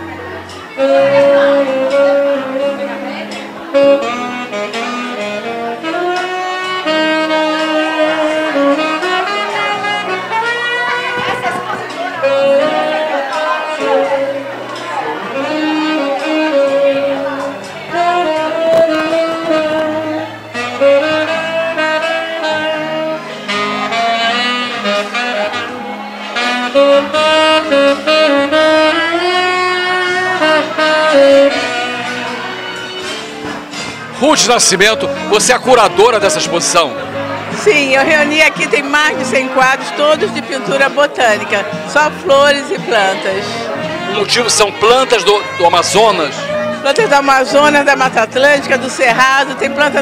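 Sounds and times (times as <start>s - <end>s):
saxophone playing slow jazzy melody: 0.0s - 34.2s, 34.8s - 40.7s, 41.6s - 47.8s
bass line and accompaniment: 0.0s - 50.0s.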